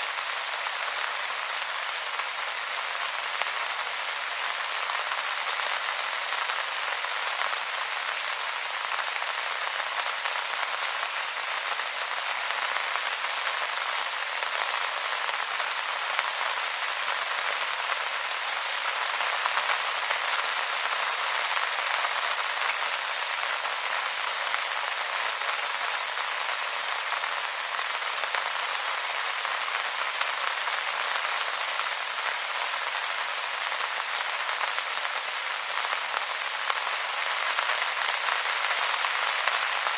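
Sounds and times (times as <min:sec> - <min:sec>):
rain falling on wet leaves: 0:00.0 - 0:39.9.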